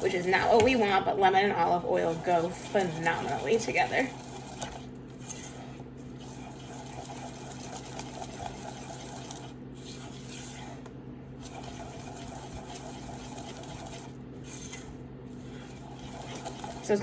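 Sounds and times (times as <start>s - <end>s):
batter stirred in a bowl: 0.0s - 17.0s
low electrical hum: 0.0s - 17.0s.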